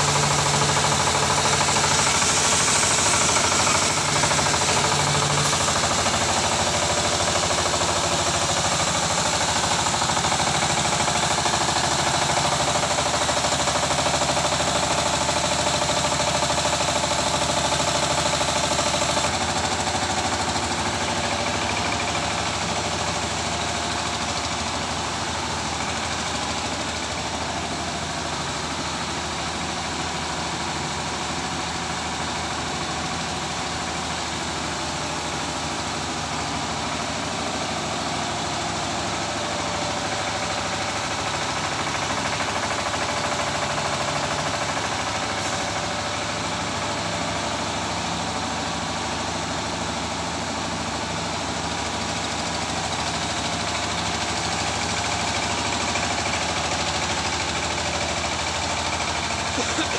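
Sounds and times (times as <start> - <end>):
feed mixing machine running: 0.0 - 59.9.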